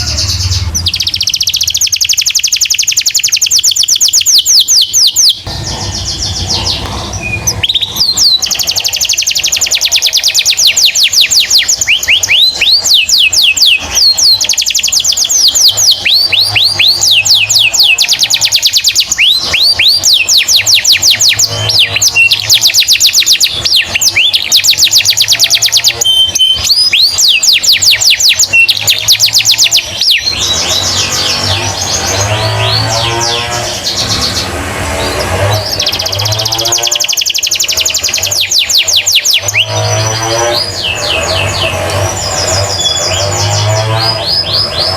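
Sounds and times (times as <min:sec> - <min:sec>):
canary singing: 0:00.0 - 0:44.9.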